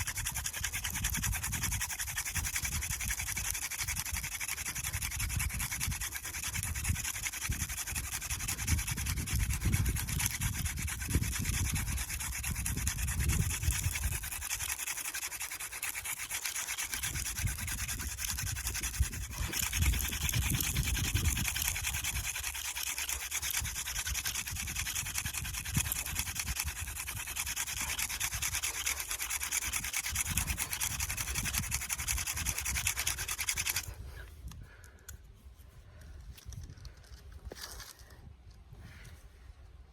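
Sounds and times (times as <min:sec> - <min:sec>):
wooden spindle rubbing and scratching: 0:00.0 - 0:39.1.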